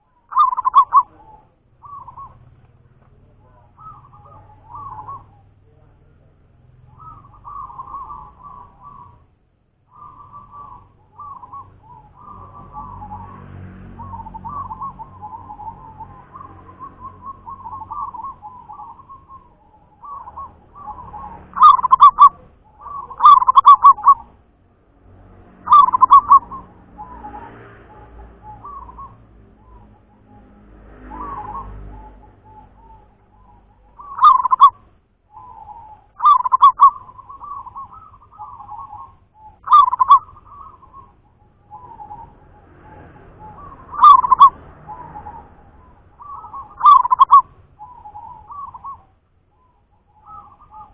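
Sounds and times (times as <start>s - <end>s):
dove cooing: 0.0s - 24.4s, 25.6s - 50.9s.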